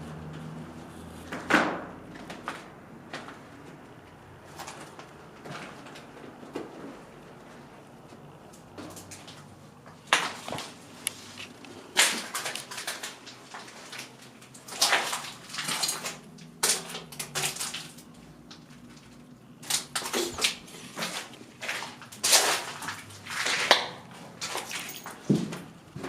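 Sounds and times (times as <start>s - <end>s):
crunching and scraping on debris: 1.2s - 7.7s, 8.4s - 26.0s.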